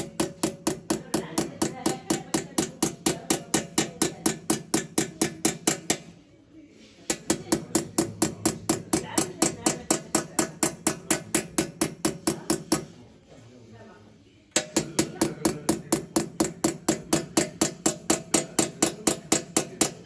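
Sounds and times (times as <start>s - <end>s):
hammer tapping metal chisel: 0.0s - 6.2s, 7.0s - 13.0s, 14.5s - 20.0s.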